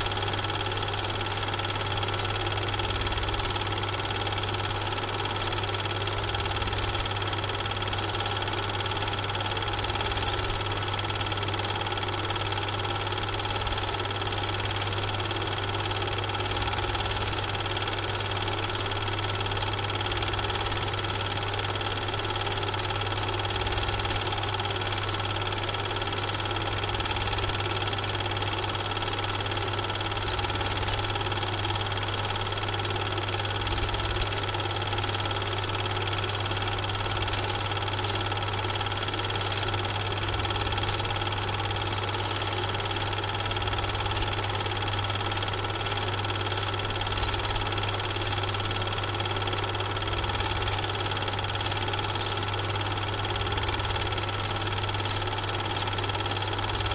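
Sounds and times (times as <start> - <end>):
film projector running: 0.0 - 56.9.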